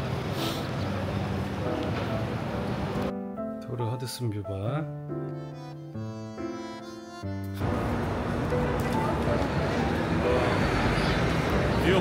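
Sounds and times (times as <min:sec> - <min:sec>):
slow melody of long notes: 0:01.6 - 0:12.0.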